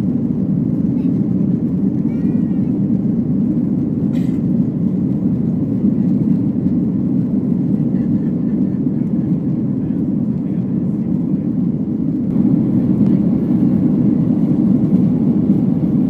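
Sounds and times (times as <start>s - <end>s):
airliner cabin drone: 0.0s - 16.0s.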